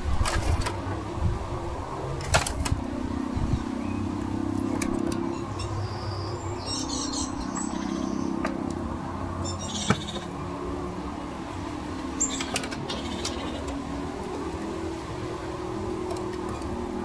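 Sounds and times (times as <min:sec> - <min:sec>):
small birds chirping: 0:02.9 - 0:16.9.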